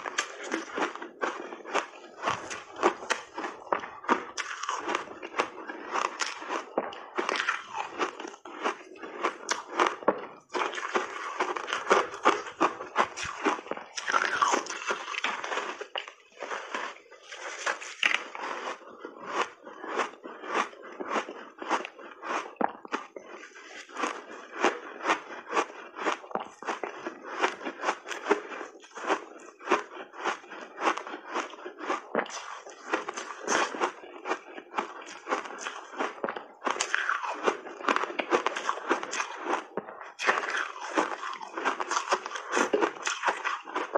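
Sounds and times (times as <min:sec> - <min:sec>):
ice being crunched and chewed: 0:00.0 - 0:43.9.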